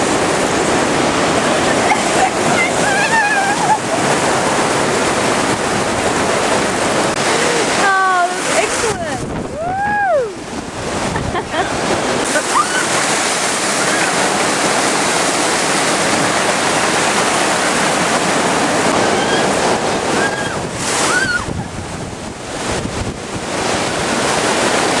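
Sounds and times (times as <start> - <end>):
water rushing down channel: 0.0 - 25.0
wind buffeting microphone: 0.0 - 25.0.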